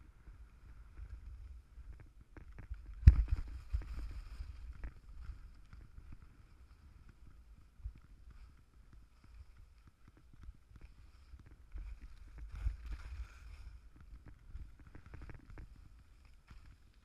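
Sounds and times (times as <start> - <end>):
skis rumbling over snow: 0.1 - 17.0.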